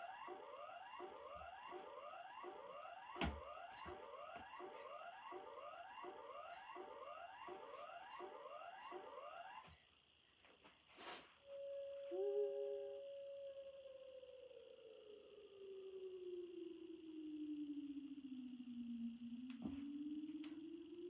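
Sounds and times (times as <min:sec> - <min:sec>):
warning siren over speakers: 0:00.0 - 0:09.8, 0:11.4 - 0:21.0.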